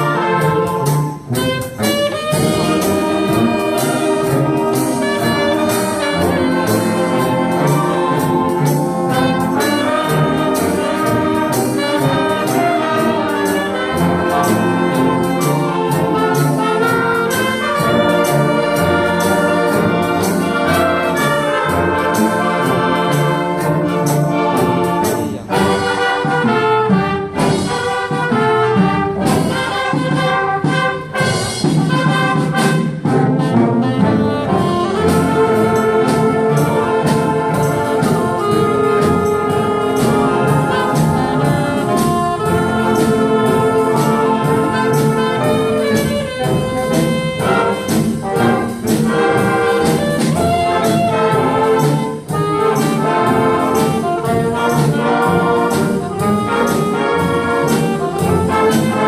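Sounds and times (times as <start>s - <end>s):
wind orchestra playing: 0.0s - 59.0s.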